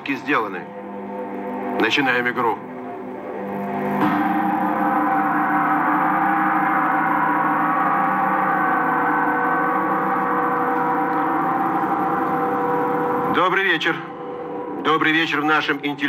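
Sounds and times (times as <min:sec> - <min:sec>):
gong-like metallic drone: 0:00.0 - 0:16.0.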